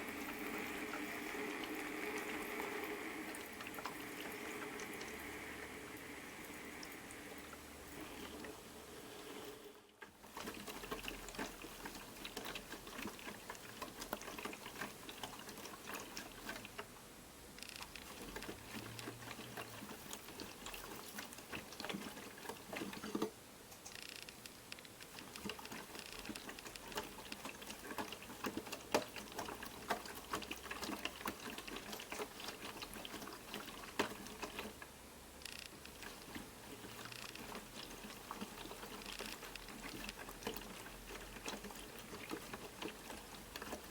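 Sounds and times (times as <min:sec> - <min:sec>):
laundry sloshing in washing machine drum: 0:00.0 - 0:17.0, 0:18.0 - 0:23.4, 0:25.1 - 0:34.9, 0:35.7 - 0:43.9.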